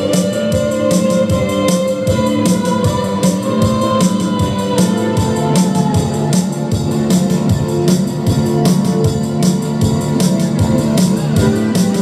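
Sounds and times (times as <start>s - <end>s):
electric bass: 0.0s - 12.0s.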